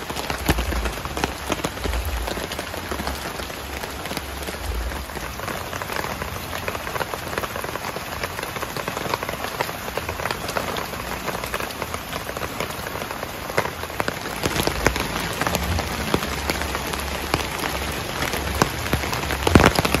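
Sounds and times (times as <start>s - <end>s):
heavy rain on a tent: 0.0s - 20.0s.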